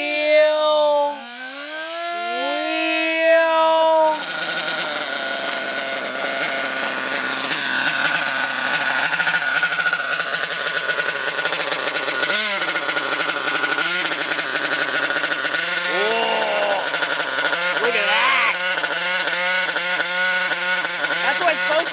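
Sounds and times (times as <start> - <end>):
small nitro engine revving: 0.0 - 21.9.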